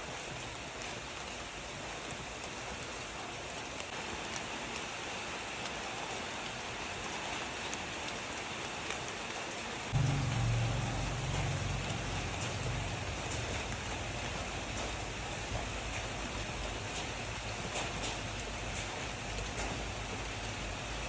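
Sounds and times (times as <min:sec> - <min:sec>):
steady rain: 0:00.0 - 0:21.0
raindrop ticks: 0:00.1 - 0:21.0.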